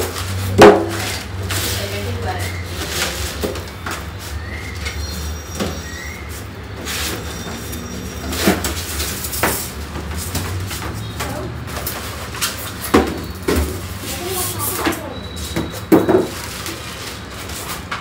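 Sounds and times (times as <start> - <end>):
plastic wrap rustling: 0.0 - 5.0, 6.2 - 18.0
polystyrene and cardboard scraping: 0.0 - 5.4, 6.2 - 18.0.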